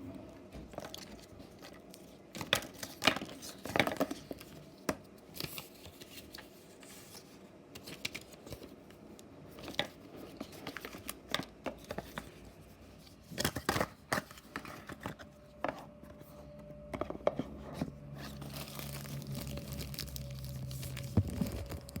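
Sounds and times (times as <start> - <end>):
faint steady hum: 0.0 - 22.0
paper and plastic crinkling: 0.7 - 16.4, 17.0 - 22.0.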